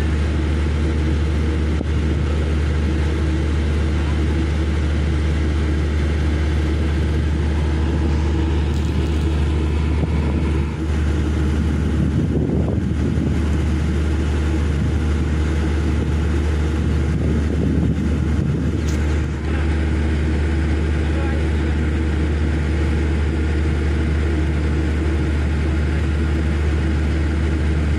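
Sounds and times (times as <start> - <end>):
engine droning steadily: 0.0 - 27.9.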